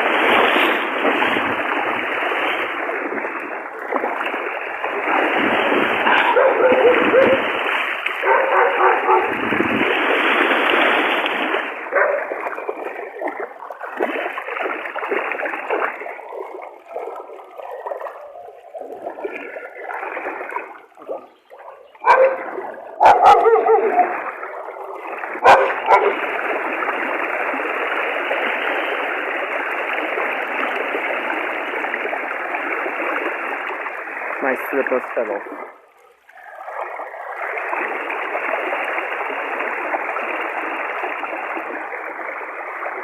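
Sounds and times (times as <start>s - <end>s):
floodwater rushing: 0.0s - 43.0s.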